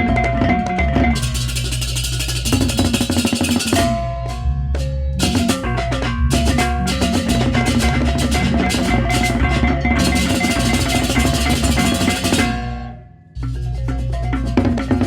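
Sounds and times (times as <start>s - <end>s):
gamelan drums cymbals and gongs: 0.0s - 15.0s.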